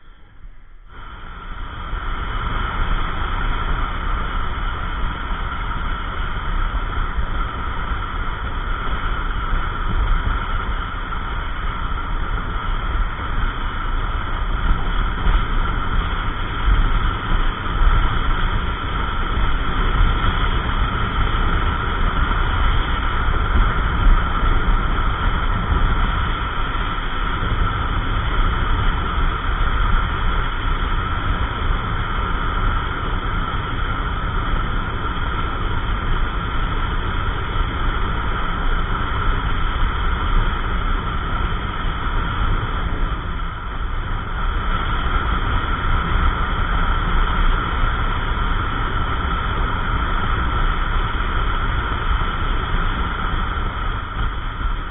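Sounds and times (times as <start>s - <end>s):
road and wind noise: 0.0s - 54.9s
scooter engine drone: 0.0s - 54.9s.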